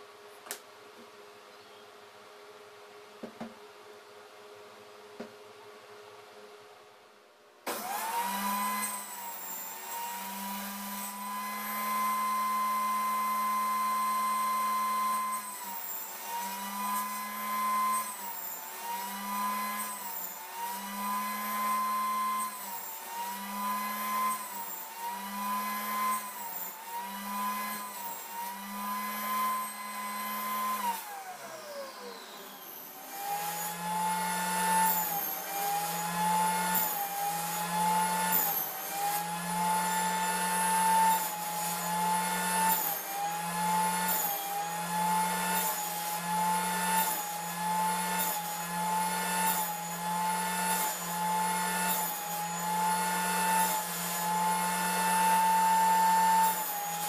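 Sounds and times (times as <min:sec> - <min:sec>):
wood router whining: 0:07.7 - 0:57.0.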